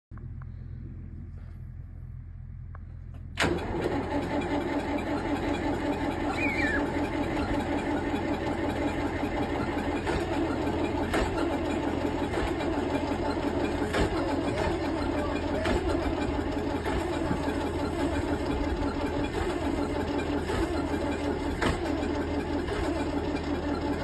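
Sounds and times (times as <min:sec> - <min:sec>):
tractor engine starting and running: 0:00.1 - 0:24.0.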